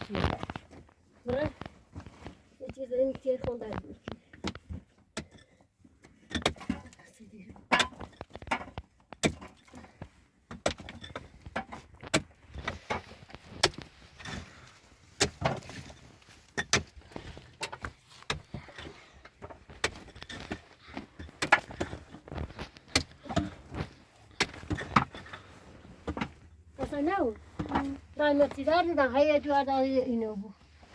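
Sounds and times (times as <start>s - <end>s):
objects knocking and clattering: 0.0s - 29.0s.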